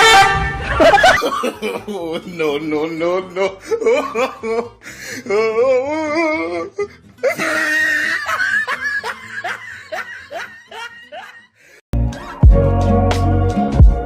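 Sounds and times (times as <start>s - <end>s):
person laughing: 0.5s - 2.6s, 3.2s - 12.5s.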